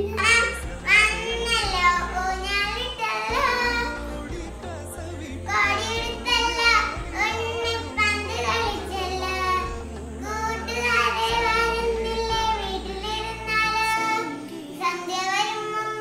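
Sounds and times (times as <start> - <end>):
girl singing: 0.0 - 16.0.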